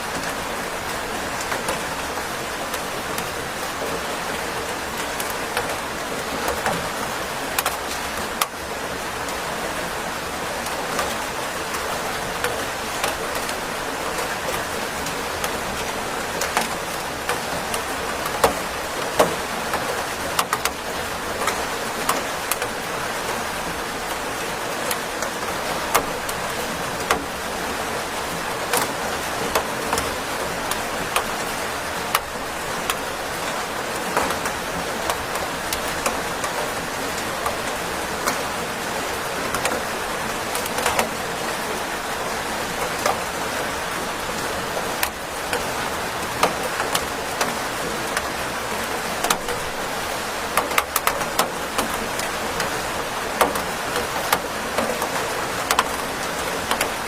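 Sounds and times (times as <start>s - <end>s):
raindrops tapping a surface: 0.1s - 57.0s.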